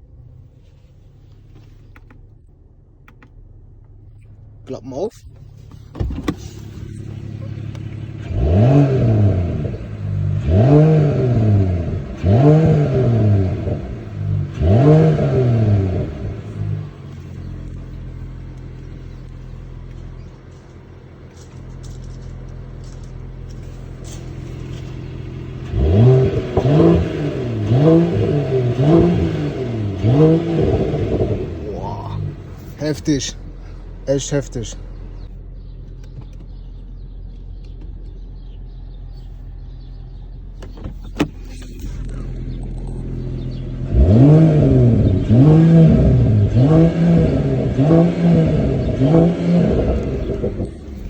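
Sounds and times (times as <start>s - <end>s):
car engine idling: 0.0s - 51.0s
car engine revving: 0.0s - 51.0s.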